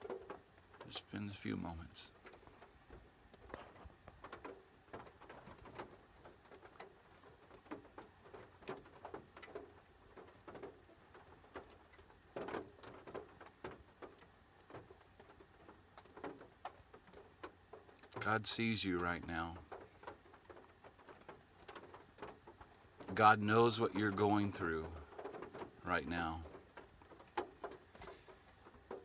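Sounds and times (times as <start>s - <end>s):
rain tapping on car roof: 0.0s - 29.0s.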